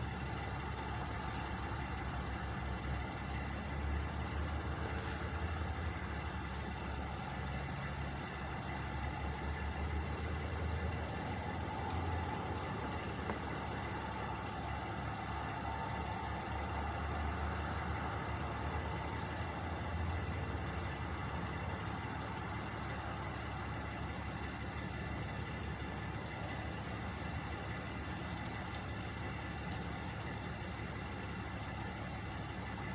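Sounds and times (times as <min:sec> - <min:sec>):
distant truck engines idling: 0:00.0 - 0:32.9.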